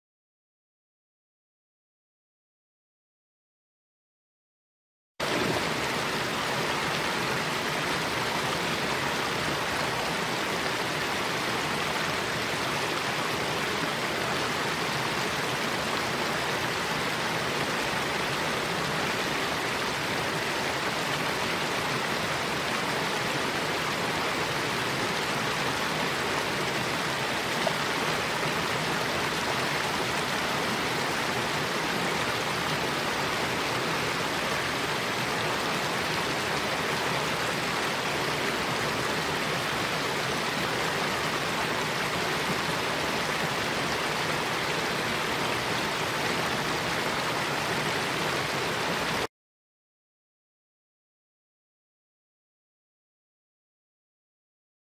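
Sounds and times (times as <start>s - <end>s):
waterfall rushing: 5.2s - 49.3s.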